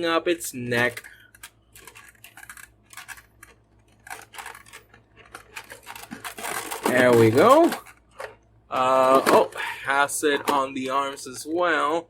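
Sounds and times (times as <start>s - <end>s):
plastic packaging clicks and rustles: 0.7s - 11.4s.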